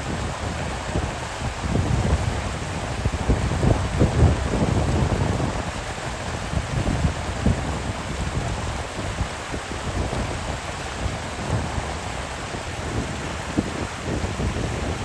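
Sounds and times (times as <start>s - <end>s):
water rushing: 0.0s - 15.0s
wind buffeting microphone: 0.0s - 15.0s.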